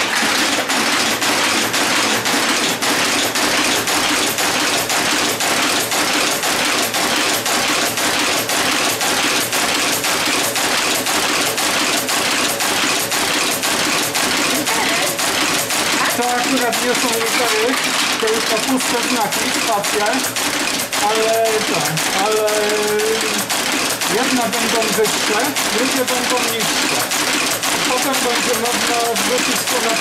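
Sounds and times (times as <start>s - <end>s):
type caster mechanical clatter: 0.0s - 30.0s.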